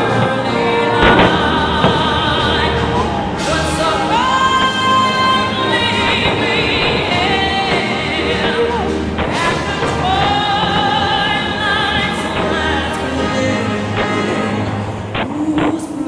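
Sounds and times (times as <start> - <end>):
musical accompaniment: 0.0 - 16.0
operatic singing voice: 0.0 - 16.0.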